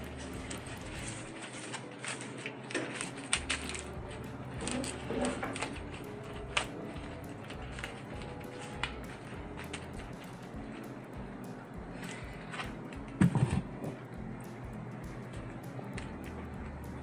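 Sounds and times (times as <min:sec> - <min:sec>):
low hum: 0:00.0 - 0:02.0, 0:02.7 - 0:17.0
air filter clicking and crinkling: 0:00.0 - 0:17.0.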